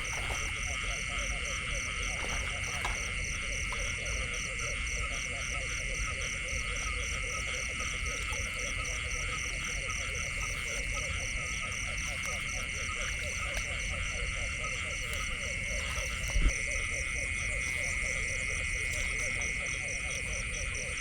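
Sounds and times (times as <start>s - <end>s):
frogs calling: 0.0s - 21.0s
high insect drone: 0.0s - 21.0s
pulsing insect trill: 0.0s - 21.0s.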